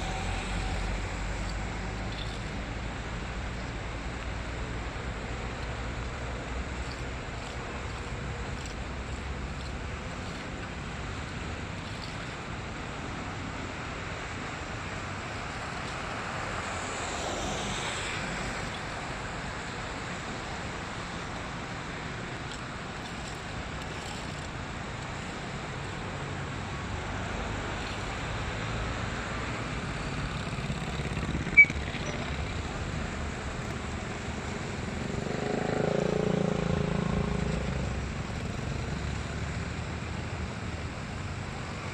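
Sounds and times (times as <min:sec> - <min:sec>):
passing traffic: 0:00.0 - 0:41.9.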